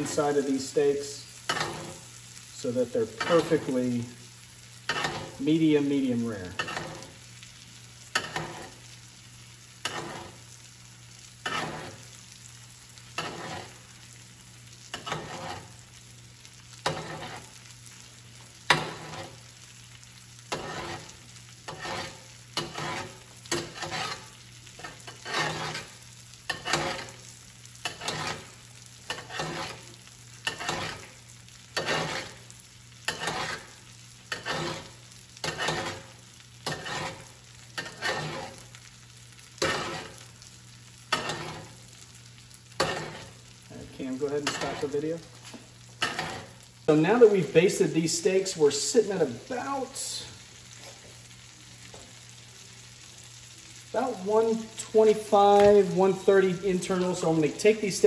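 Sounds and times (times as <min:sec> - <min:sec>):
bursts of sizzling in a skillet: 0:00.0 - 0:58.0.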